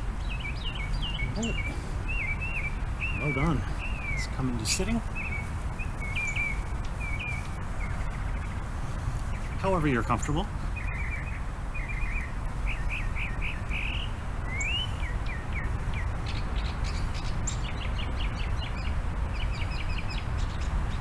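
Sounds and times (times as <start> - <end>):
songbirds chirping and trilling: 0.0 - 21.0
steady low rumble: 0.0 - 21.0.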